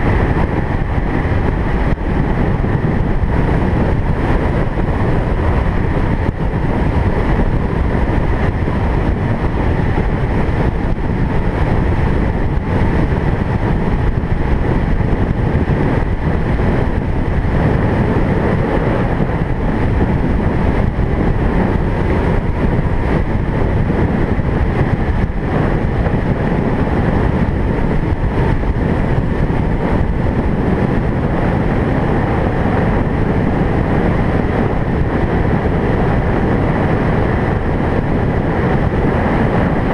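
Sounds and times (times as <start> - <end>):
engine noise: 0.0 - 39.9
road noise: 0.0 - 39.9
vehicle driving steadily: 0.0 - 39.9
wind noise: 0.0 - 39.9.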